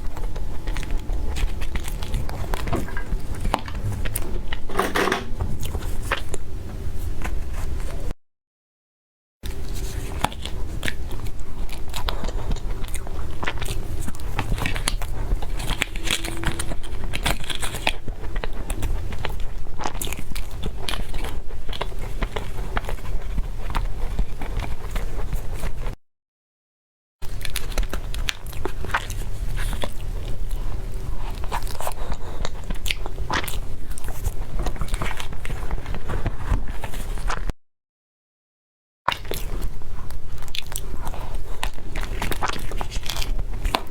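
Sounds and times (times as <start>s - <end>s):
chewing crunchy food: 0.0s - 4.7s, 9.4s - 26.0s, 27.2s - 37.6s, 39.1s - 43.9s.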